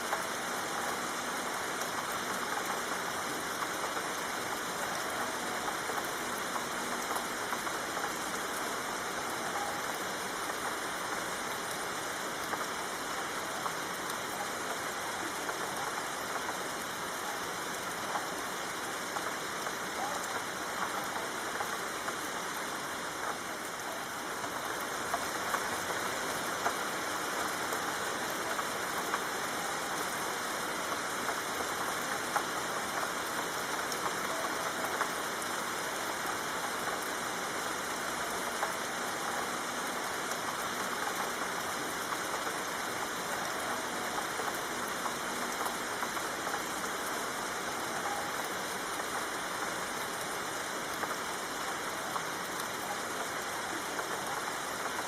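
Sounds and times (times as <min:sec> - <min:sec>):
rain drops ticking: 0:00.0 - 0:55.0
soft steady rain: 0:00.0 - 0:55.0.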